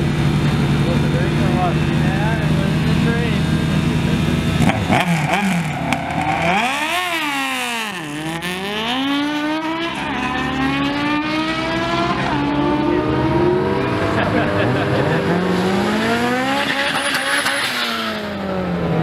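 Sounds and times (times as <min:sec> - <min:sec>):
motorcycle engines revving hard: 0:00.0 - 0:19.0.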